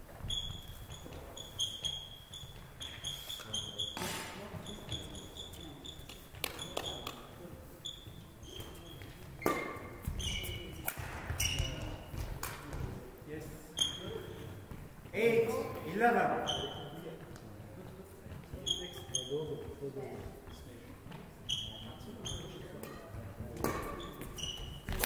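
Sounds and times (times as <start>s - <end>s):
shoes squeaking on court floor: 0.0s - 25.0s.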